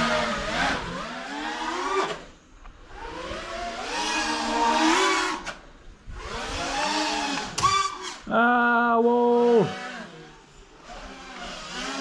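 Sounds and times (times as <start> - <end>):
drone motors whining: 0.0 - 8.3, 8.9 - 12.0.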